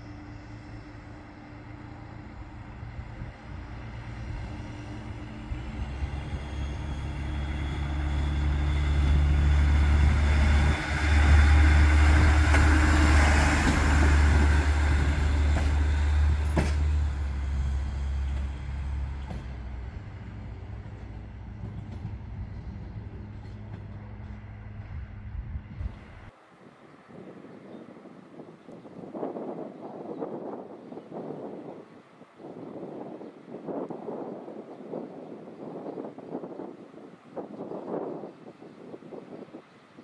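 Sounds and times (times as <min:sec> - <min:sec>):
diesel railbus engine drone: 0:00.0 - 0:40.0
wheel and rail noise: 0:00.0 - 0:40.0.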